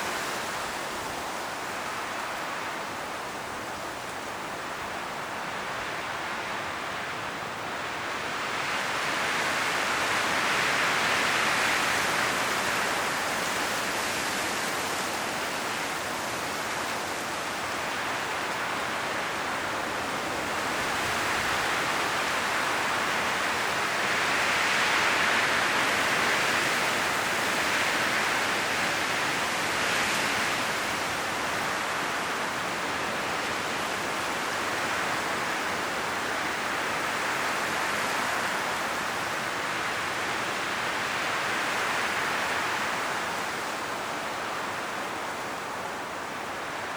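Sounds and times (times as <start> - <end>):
wind rustling tree leaves: 0.0 - 46.9.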